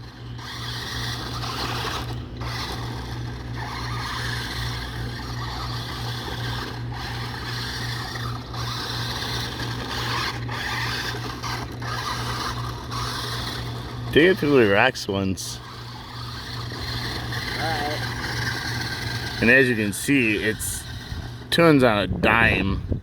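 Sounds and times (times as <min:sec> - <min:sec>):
toy car motor whirring: 0:00.0 - 0:22.8.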